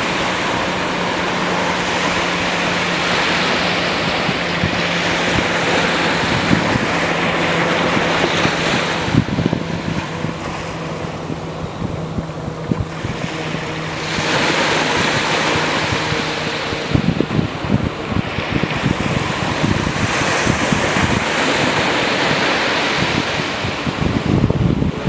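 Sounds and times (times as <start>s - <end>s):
ocean surf washing onto beach: 0.0s - 25.0s
wind buffeting microphone: 0.0s - 25.0s.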